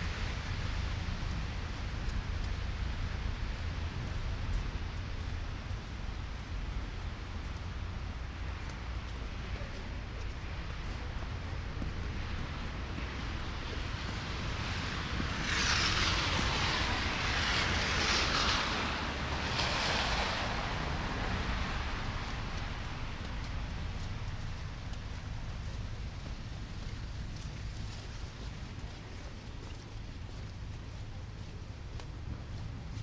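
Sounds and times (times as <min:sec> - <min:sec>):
low rumble of street noise: 0:00.0 - 0:33.0
tyres hissing on snowy road: 0:00.0 - 0:33.0
wind: 0:00.0 - 0:33.0.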